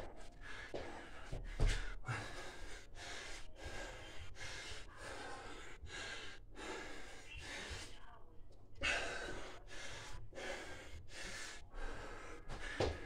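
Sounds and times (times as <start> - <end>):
man breathing heavily: 0.0 - 8.0, 8.8 - 13.0.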